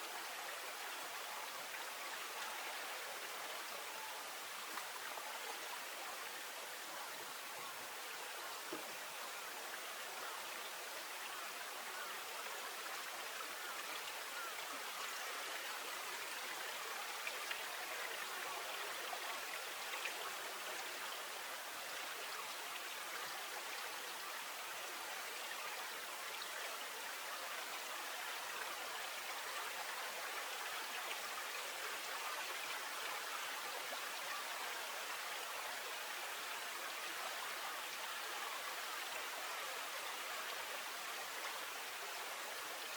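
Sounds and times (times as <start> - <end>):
flowing stream water: 0.0 - 42.9.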